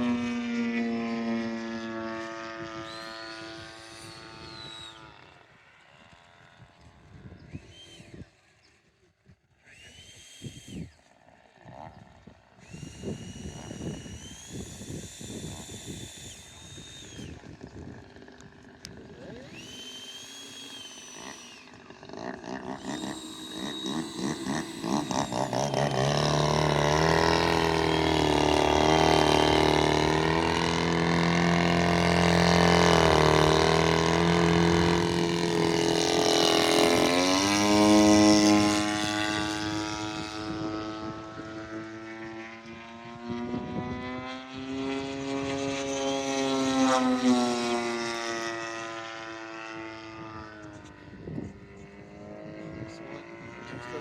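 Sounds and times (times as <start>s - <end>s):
model airplane engine and propeller: 0.0s - 54.0s.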